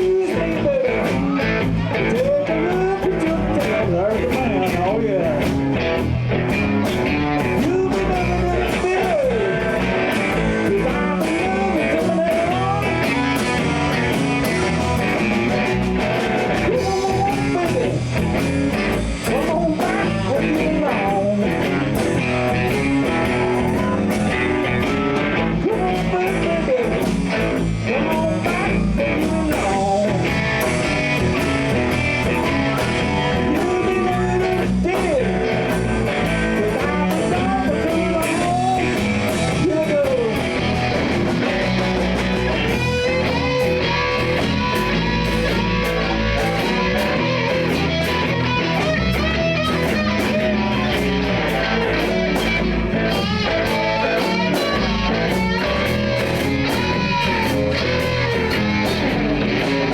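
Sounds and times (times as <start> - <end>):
bent electric guitar lead notes: 0.0 - 59.9
blues-rock band playing: 0.0 - 59.9.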